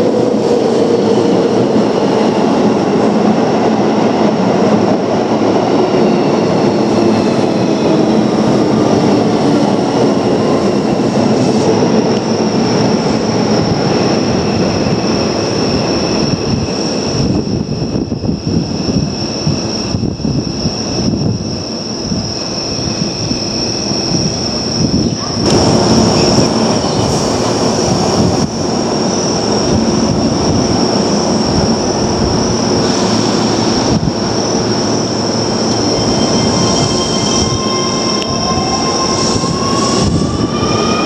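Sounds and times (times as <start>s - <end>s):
electric train rolling on rails: 0.0s - 41.0s.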